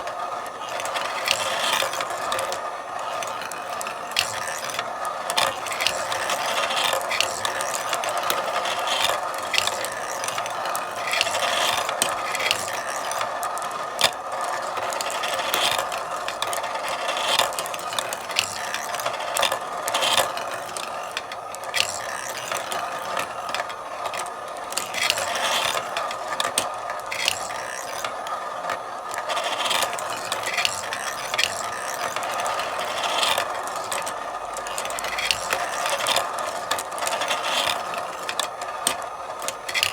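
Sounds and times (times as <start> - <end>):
marbles rolling on tracks: 0.0 - 39.9
marbles clicking and clacking: 0.1 - 39.9.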